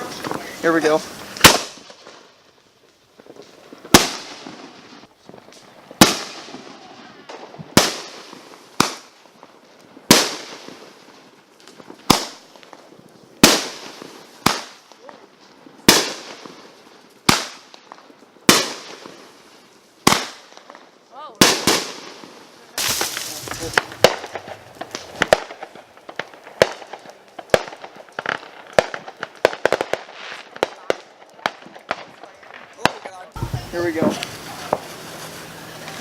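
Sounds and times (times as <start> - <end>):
fireworks banging: 0.0 - 36.0.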